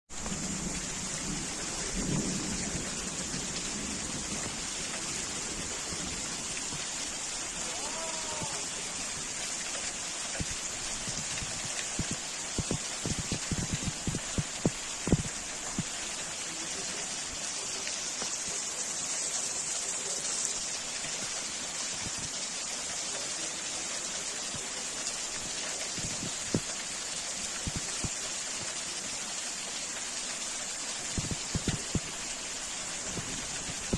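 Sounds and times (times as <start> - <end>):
heavy rain hissing: 0.1 - 33.9.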